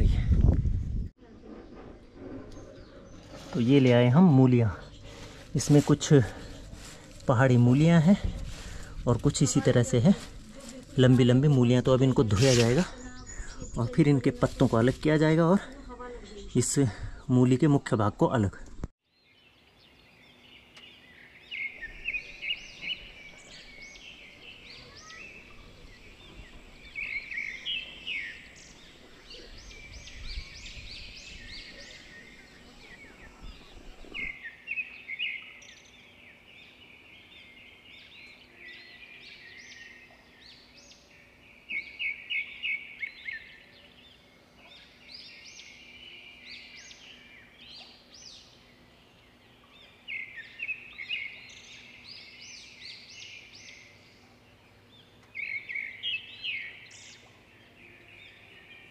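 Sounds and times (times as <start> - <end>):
songbirds chirping and singing: 1.5 - 18.3, 19.0 - 58.9.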